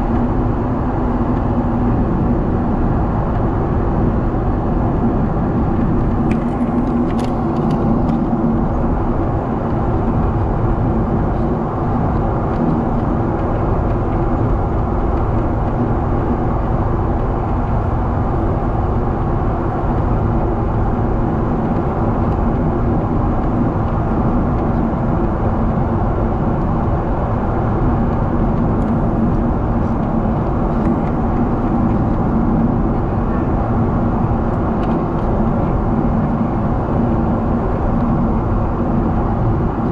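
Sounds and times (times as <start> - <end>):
airplane cabin engine and airflow noise: 0.0 - 39.9.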